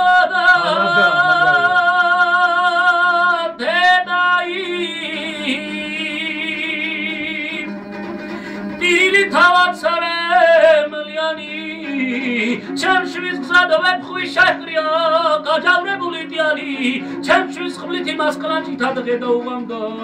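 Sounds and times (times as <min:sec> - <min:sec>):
man singing with vibrato: 0:00.0 - 0:07.7, 0:08.7 - 0:20.0.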